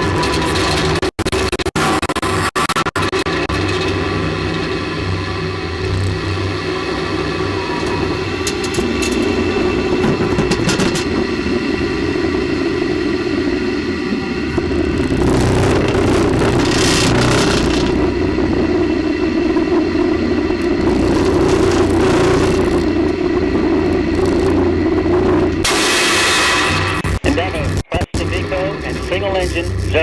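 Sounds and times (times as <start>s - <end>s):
hum of steady tones: 0.0s - 30.0s
rocket booster roar: 0.0s - 30.0s.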